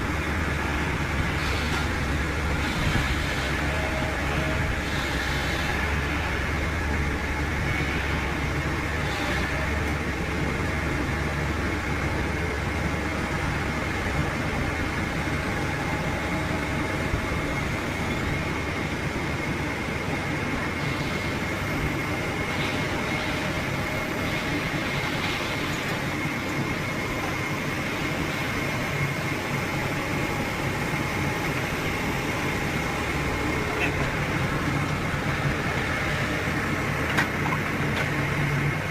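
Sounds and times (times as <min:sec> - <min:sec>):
heavy machinery engine rumble: 0:00.0 - 0:38.9.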